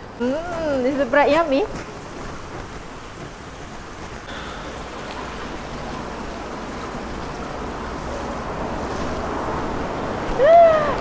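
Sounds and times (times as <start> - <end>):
fountain water splashing: 0.2 - 11.0.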